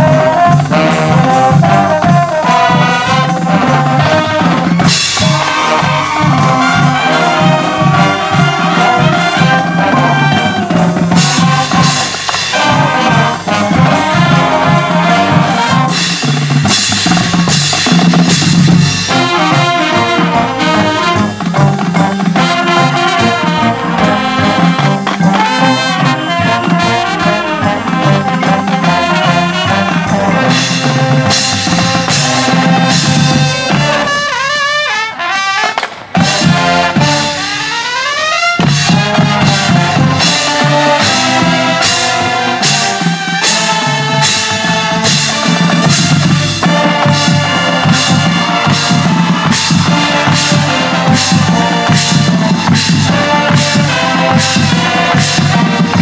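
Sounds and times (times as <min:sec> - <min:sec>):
drumline: 0:00.0 - 0:56.0
marching band playing: 0:00.0 - 0:56.0
sliding rising notes: 0:00.0 - 0:56.0.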